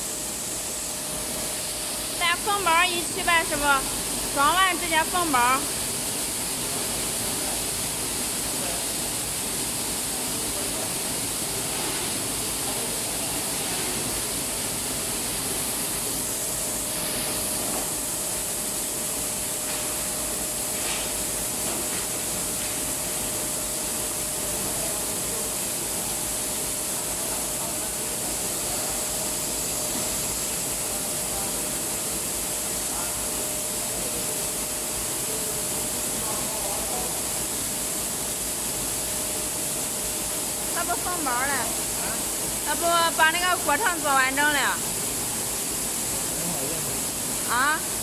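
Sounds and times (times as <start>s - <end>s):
milling machinery hissing: 0.0s - 48.0s.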